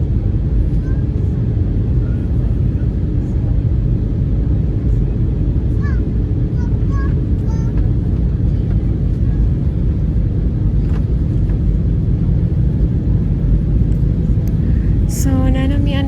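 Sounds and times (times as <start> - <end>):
airliner cabin jet rumble: 0.0 - 16.0.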